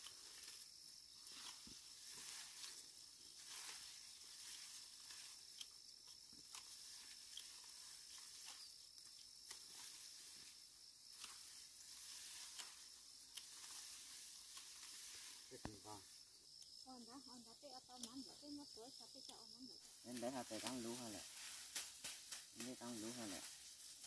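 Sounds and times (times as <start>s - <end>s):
rice stalks snipped by hand: 0.0s - 15.9s, 19.9s - 24.0s
high-pitched hiss: 0.0s - 24.0s.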